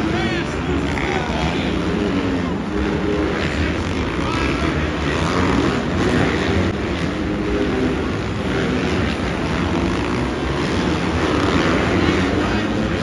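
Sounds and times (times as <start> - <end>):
dirt bike engines racing: 0.0 - 13.0.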